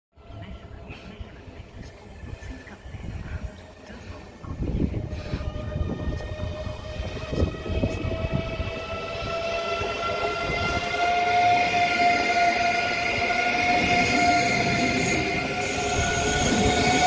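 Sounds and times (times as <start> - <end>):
high-speed train passing: 0.2 - 17.0.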